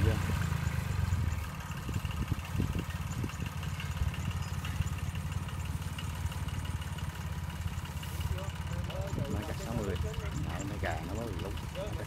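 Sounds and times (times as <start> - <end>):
tractor diesel engine chugging: 0.0 - 12.0
faint regular ticking: 0.3 - 12.0.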